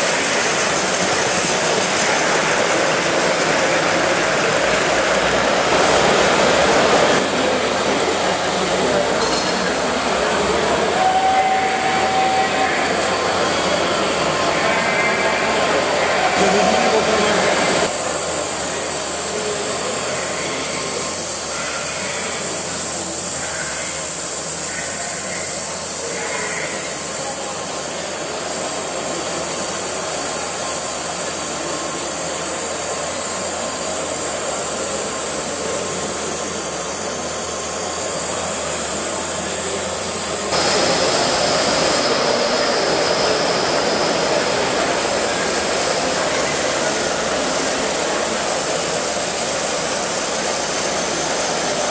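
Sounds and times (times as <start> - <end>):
steam hissing: 0.0 - 51.9.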